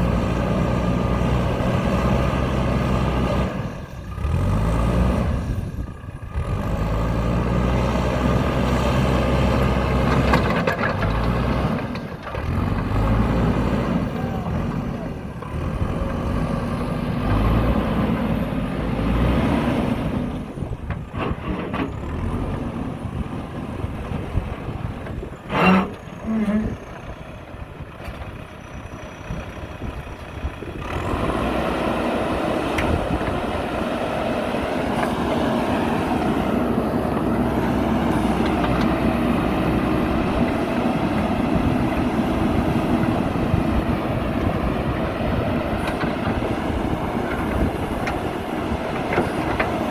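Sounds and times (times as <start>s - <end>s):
heavy diesel machinery engines: 0.0s - 49.9s.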